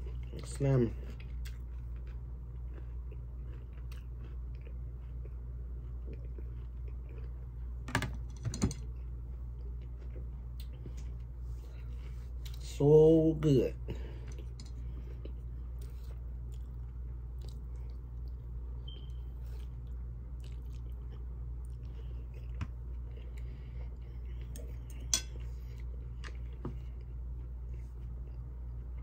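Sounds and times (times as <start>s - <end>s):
person chewing food: 0.0s - 7.8s, 8.8s - 12.6s, 13.9s - 29.0s
steady low hum: 0.0s - 29.0s.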